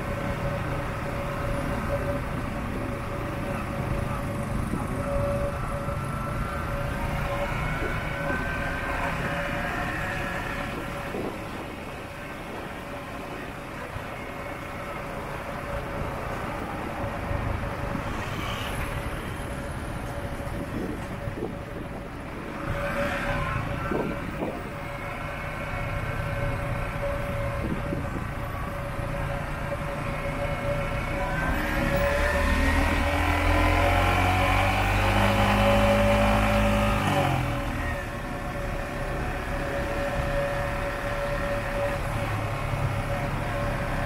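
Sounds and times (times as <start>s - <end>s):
road and wind noise: 0.0s - 44.0s
surrounding cars: 0.0s - 44.0s.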